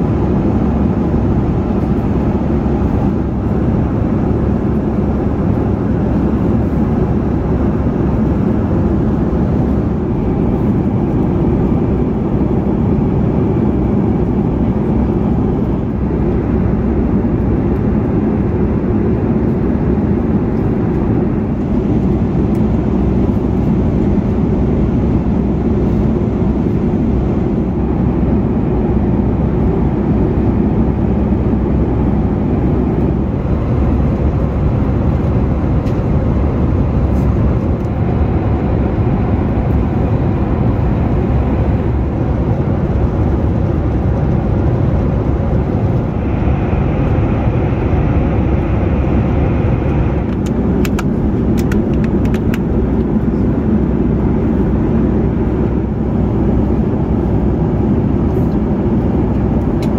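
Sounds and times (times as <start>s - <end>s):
airliner cabin noise: 0.0s - 59.9s.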